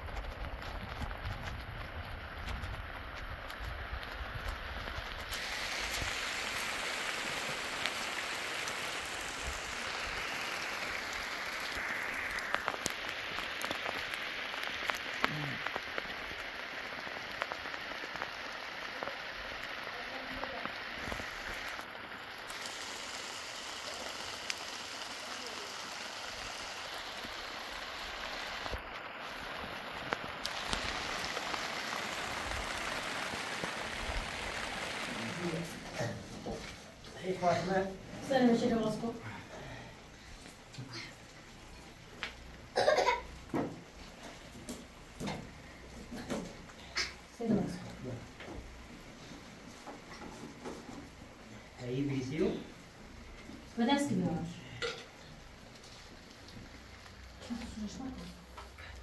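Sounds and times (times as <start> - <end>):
raindrops ticking: 0.0 - 59.0
steady rain: 0.0 - 59.0.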